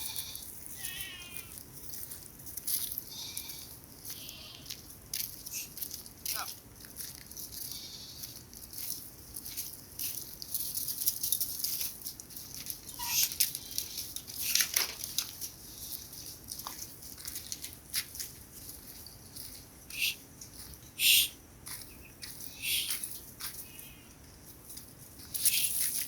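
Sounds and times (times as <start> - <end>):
goats shuffling and rustling: 0.0 - 26.0.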